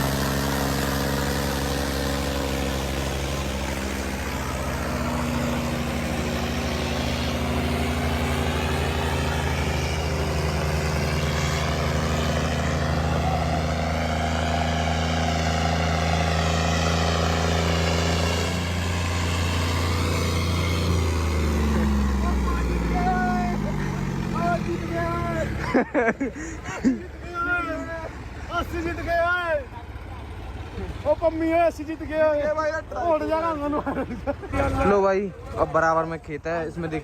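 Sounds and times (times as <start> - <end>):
tractor engines straining: 0.0 - 37.0.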